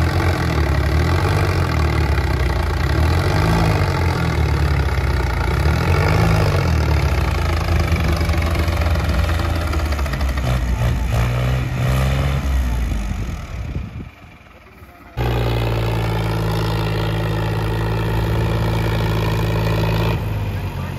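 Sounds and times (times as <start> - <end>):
tractor engines under heavy load: 0.0 - 20.9.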